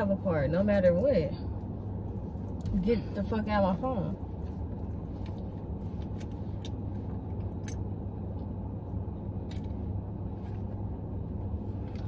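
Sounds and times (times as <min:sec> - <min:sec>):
car engine hum inside cabin: 0:00.0 - 0:12.0.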